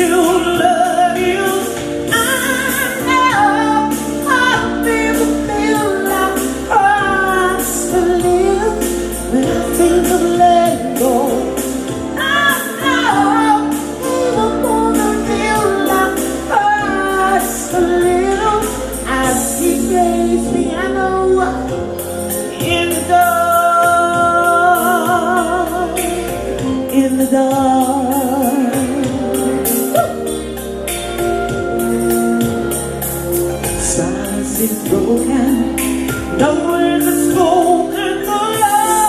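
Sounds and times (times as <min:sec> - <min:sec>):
band playing: 0:00.0 - 0:39.0
woman singing: 0:00.0 - 0:39.0.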